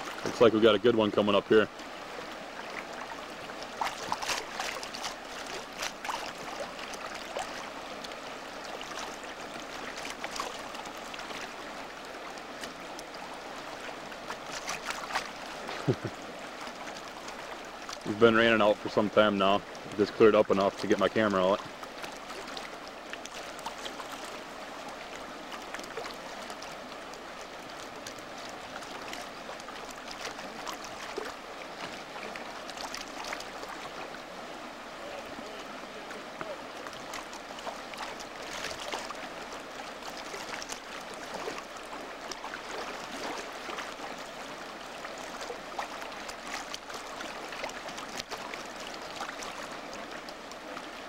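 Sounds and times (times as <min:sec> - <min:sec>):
river water rushing over rocks: 0:00.0 - 0:51.0
short water splashes: 0:00.0 - 0:51.0.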